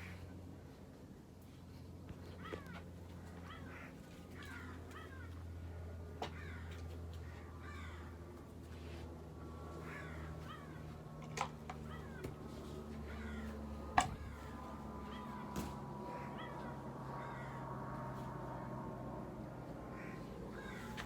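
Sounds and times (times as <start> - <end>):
ceiling fan hum: 0.0 - 21.0.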